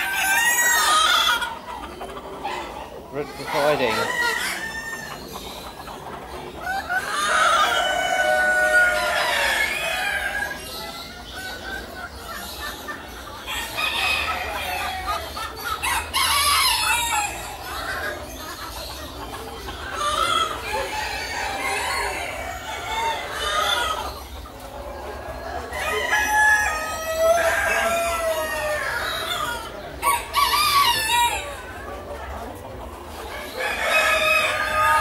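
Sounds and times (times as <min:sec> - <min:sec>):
chickens clucking: 0:00.0 - 0:35.0
roosters crowing: 0:00.0 - 0:35.0.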